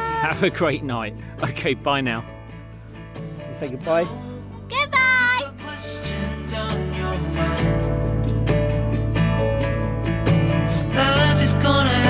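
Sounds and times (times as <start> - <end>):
guitar song: 0.0 - 12.0.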